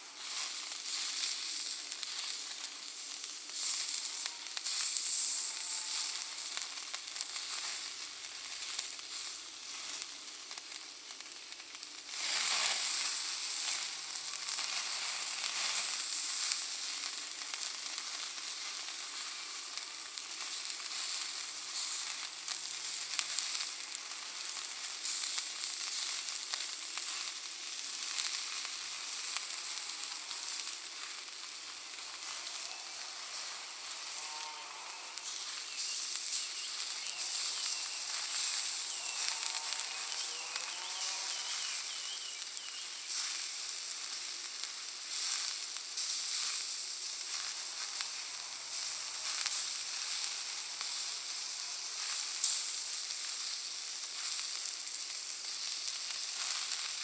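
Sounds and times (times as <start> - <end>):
fire crackling and hissing: 0.0 - 57.0.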